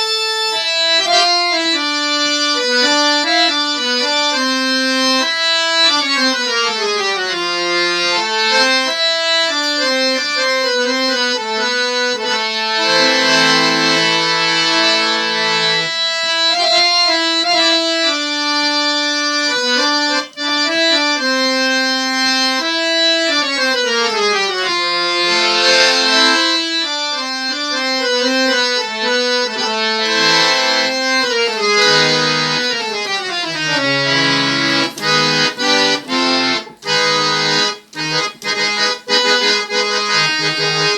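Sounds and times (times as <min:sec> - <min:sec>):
harmonium playing melody and chords: 0:00.0 - 0:40.9.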